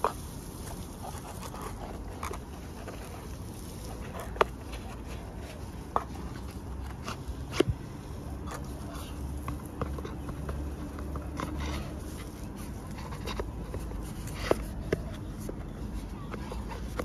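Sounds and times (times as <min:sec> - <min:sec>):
cardboard box handling: 0:00.0 - 0:17.0.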